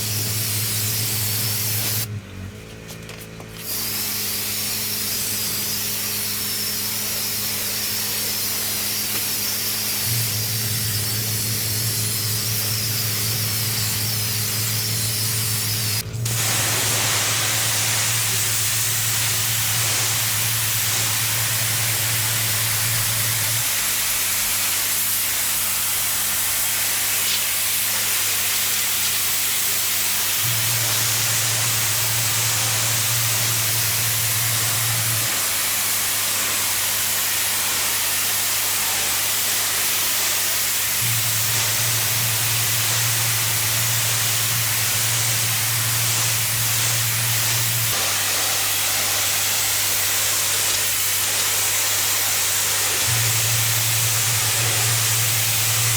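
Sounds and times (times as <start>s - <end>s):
pressure washer spraying: 0.0s - 2.1s, 3.5s - 55.9s.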